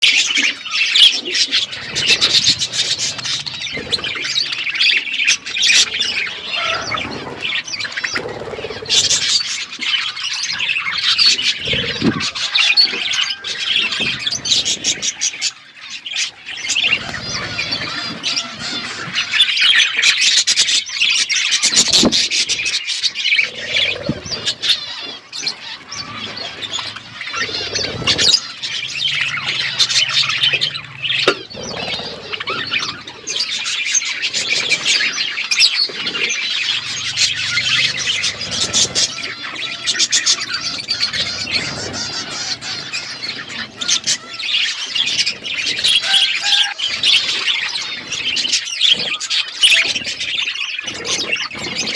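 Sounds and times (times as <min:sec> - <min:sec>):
budgerigars chattering and chirping: 0:00.0 - 0:51.9.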